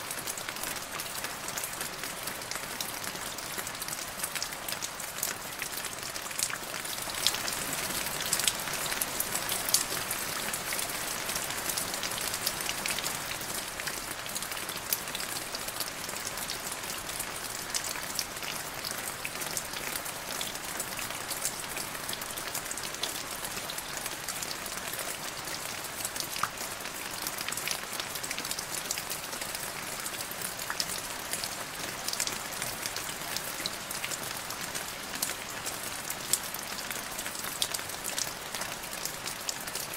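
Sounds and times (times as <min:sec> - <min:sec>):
rain on puddle and leaves: 0:00.0 - 0:39.9.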